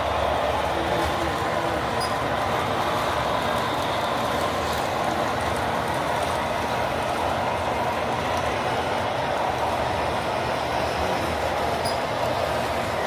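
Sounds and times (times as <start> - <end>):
model train wheels rumbling on track: 0.0 - 13.0.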